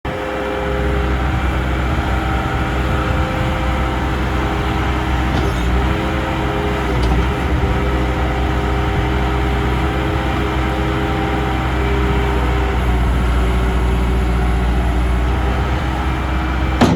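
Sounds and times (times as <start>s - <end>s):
loader diesel engine running: 0.0s - 16.9s.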